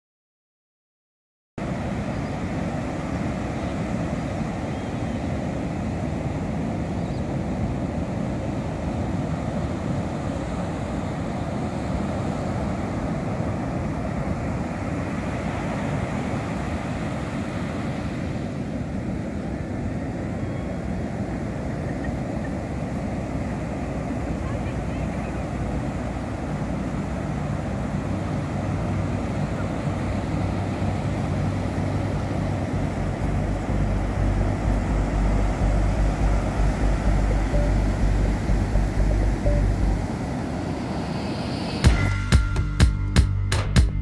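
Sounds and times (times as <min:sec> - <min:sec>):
ocean surf breaking on beach: 0:01.6 - 0:42.0
wind rumble on microphone: 0:01.6 - 0:42.1.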